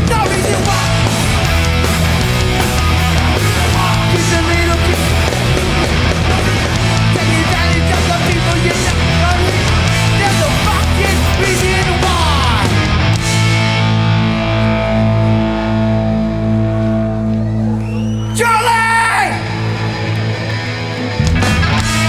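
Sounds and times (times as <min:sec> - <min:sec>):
distorted electric guitars: 0:00.0 - 0:17.8, 0:19.3 - 0:22.0
bass guitar: 0:00.0 - 0:22.0
drums: 0:00.0 - 0:22.0.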